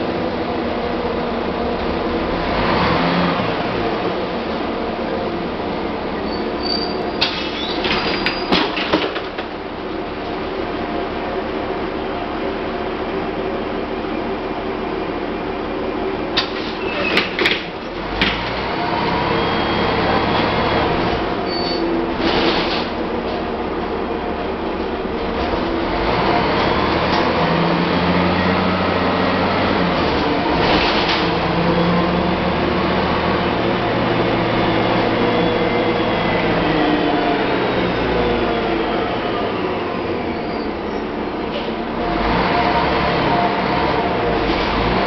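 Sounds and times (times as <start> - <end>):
bus engine pulling away: 0.0 - 8.5, 9.5 - 45.0.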